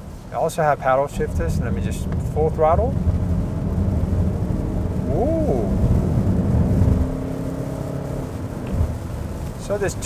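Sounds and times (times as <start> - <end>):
diesel engine accelerating: 0.8 - 10.0.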